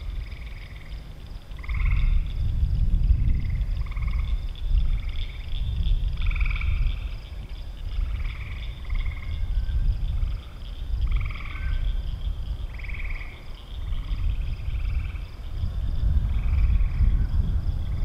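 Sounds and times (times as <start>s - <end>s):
frogs trilling chorus: 0.0s - 18.0s
low rumble: 1.8s - 12.8s, 13.7s - 18.0s.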